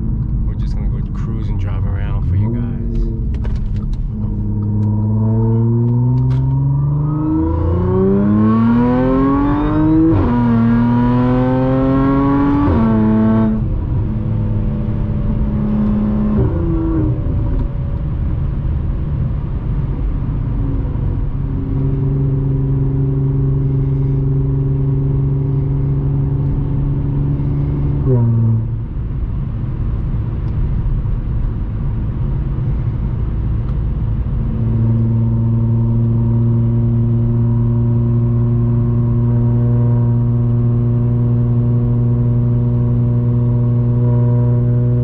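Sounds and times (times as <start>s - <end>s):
car engine accelerating through gears: 0.0s - 45.0s.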